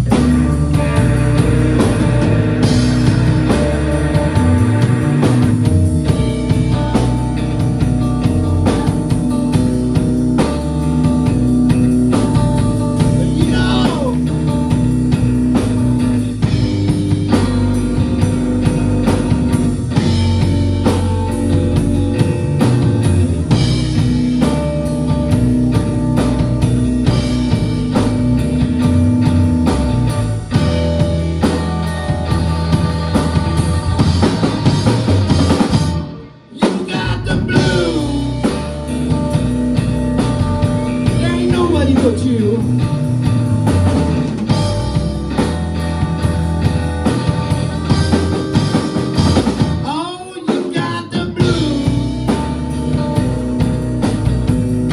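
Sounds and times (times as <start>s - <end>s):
drum kit: 0.0s - 54.9s
electric bass: 0.0s - 54.9s
electric guitar: 0.0s - 54.9s.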